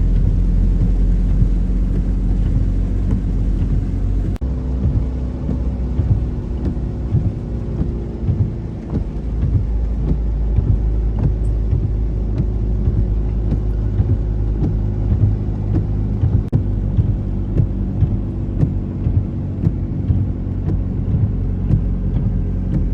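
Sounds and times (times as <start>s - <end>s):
vehicle engine humming: 0.0s - 22.9s.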